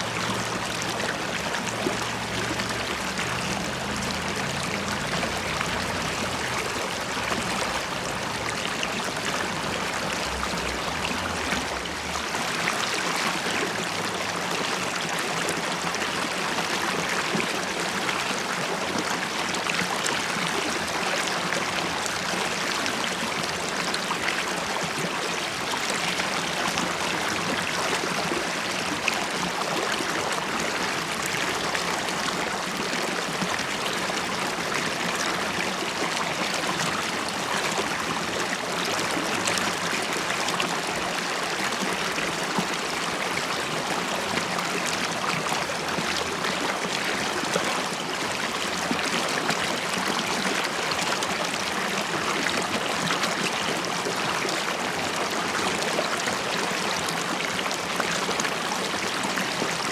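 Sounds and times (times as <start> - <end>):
river water flowing and bubbling: 0.0 - 59.9.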